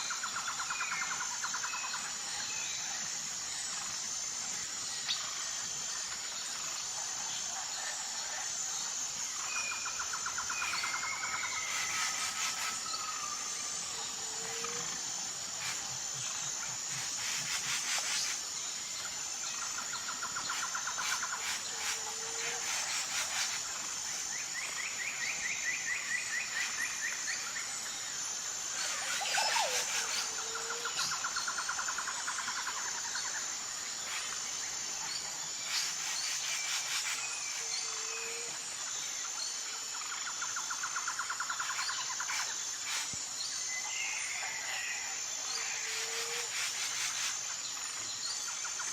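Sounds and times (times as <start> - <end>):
high insect drone: 0.0 - 48.9.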